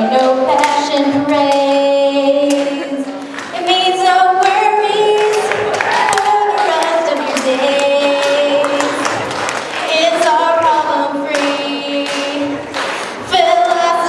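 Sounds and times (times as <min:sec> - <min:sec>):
woman singing into microphone: 0:00.0 - 0:14.0.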